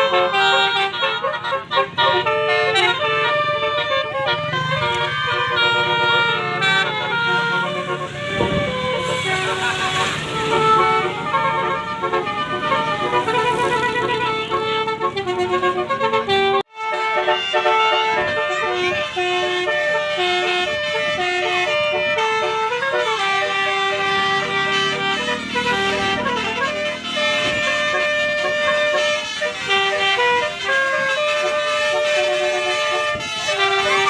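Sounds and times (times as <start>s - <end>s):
bus horn playing a tune: 0.0s - 34.0s
road traffic: 0.0s - 34.0s.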